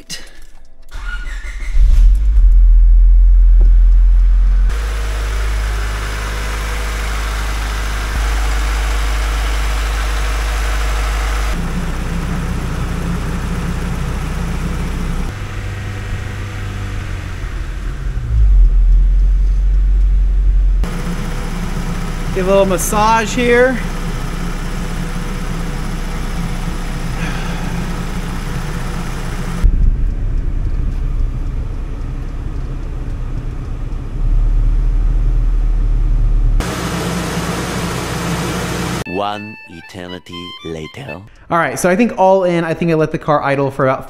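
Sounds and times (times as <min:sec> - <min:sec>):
car engine idling: 0:00.0 - 0:39.1.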